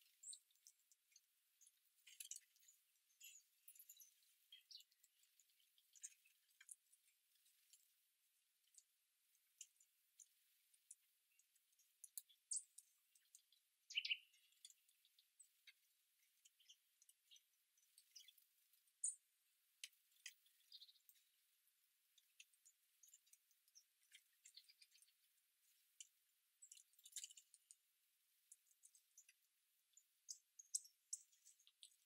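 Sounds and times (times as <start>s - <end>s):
songbirds chipping and calling: 0.0s - 7.9s, 9.5s - 21.5s, 22.2s - 27.8s, 28.5s - 32.0s.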